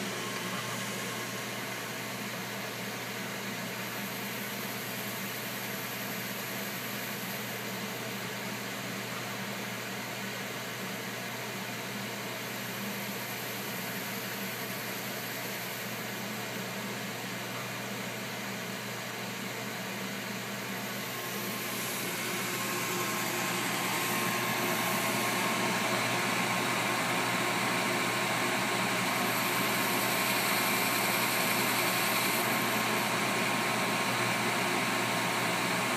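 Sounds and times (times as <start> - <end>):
lathe machine hum and whine: 0.0 - 35.9.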